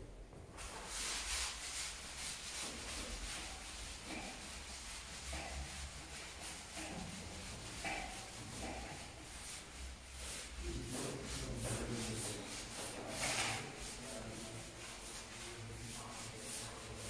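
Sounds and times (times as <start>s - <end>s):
marker writing on whiteboard: 2.6s - 17.0s.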